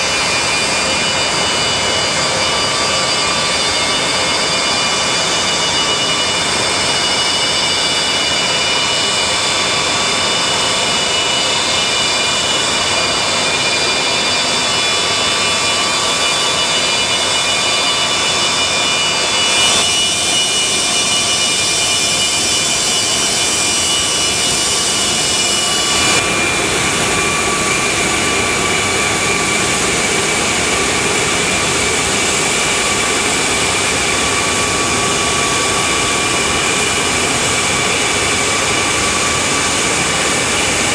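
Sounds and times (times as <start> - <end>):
high whining tones: 0.0 - 40.9
jet engines roaring: 0.0 - 40.9.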